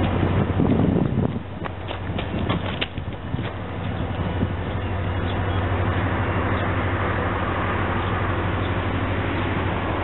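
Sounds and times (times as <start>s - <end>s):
diesel locomotive engine rumble: 0.0s - 10.0s.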